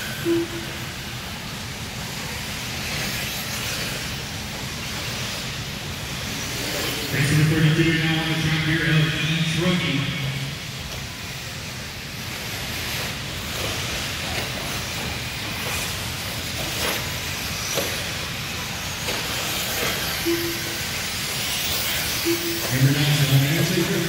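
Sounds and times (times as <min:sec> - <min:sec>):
rc cars motors and tyres hissing: 0:00.0 - 0:07.8, 0:10.7 - 0:24.0.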